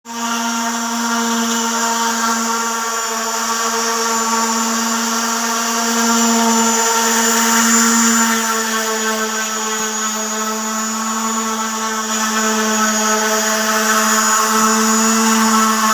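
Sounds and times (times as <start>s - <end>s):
electric sander whining: 0.1s - 15.9s.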